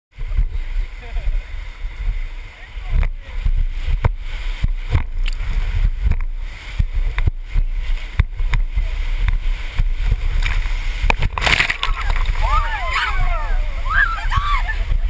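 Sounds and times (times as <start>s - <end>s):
wind rumble on microphone: 0.1s - 15.0s
water splash: 0.2s - 15.0s
whitewater rushing: 0.2s - 15.0s.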